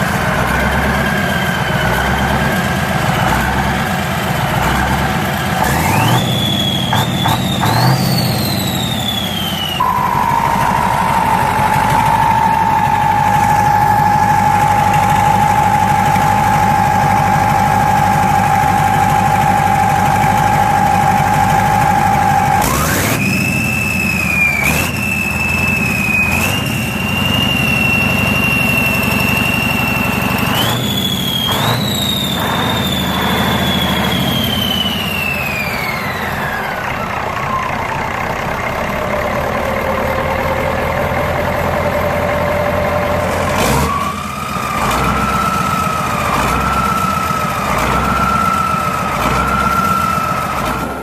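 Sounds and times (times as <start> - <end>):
high-pitched engine whine: 0.0 - 51.0
large engine pulsing: 0.0 - 51.0.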